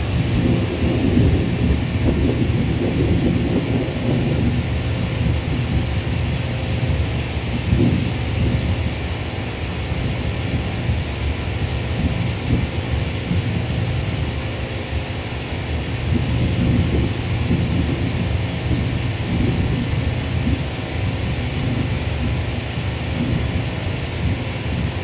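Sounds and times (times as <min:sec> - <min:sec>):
distant jet engines rumbling: 0:00.0 - 0:25.0.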